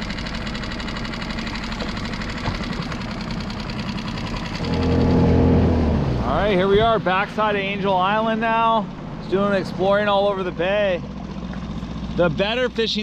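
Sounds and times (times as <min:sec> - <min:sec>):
loud deep engine: 0:00.0 - 0:13.0
outboard motor idling: 0:00.0 - 0:13.0.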